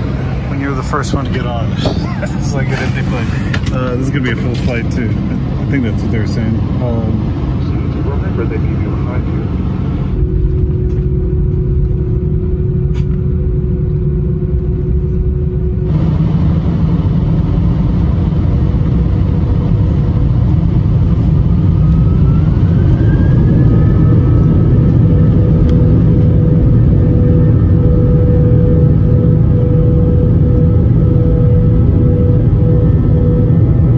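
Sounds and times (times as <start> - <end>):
low engine rumble in cabin: 0.0 - 33.9
rising engine whine: 0.0 - 33.9.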